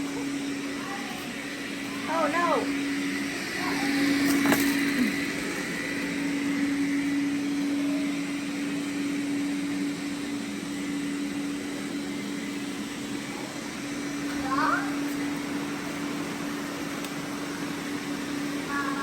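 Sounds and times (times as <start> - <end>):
robot vacuum humming and whirring: 0.0 - 19.0.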